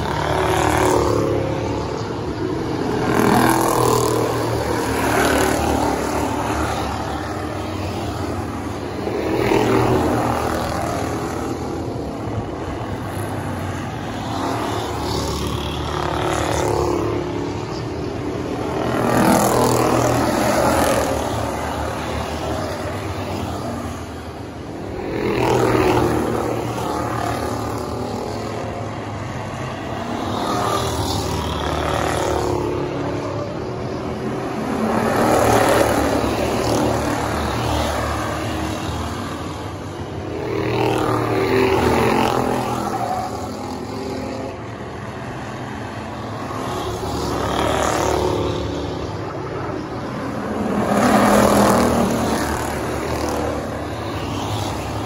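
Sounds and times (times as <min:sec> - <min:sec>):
race car engines passing: 0:00.0 - 0:55.0
steady drone of race cars: 0:00.0 - 0:55.0.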